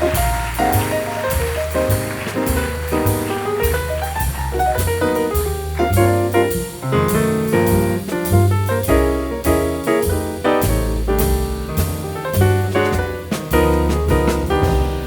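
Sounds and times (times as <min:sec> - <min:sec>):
jazz music with piano bass and drums: 0:00.0 - 0:15.0.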